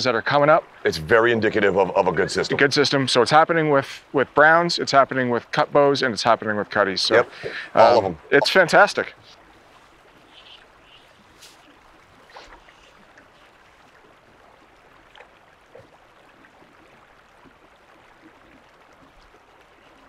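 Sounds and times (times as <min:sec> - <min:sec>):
water lapping around a boat: 0:00.0 - 0:20.0.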